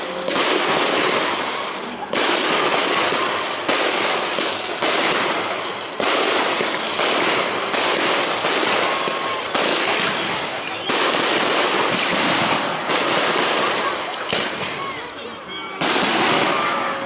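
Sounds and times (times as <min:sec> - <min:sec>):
fireworks bursts crackling: 0:00.0 - 0:17.0.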